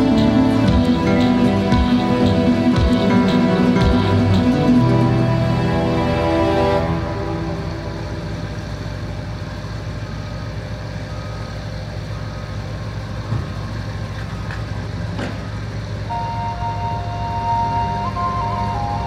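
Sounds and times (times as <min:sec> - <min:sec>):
steady high tones: 0:00.0 - 0:14.5, 0:15.4 - 0:19.0
diesel engine droning: 0:00.0 - 0:19.0.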